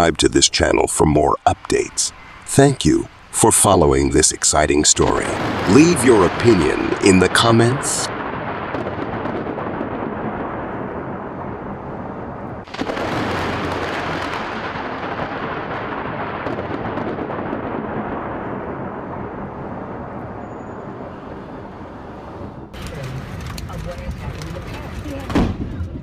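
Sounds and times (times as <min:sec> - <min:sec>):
thunder clap: 0:00.0 - 0:26.0
thunder rumbling: 0:00.0 - 0:26.0.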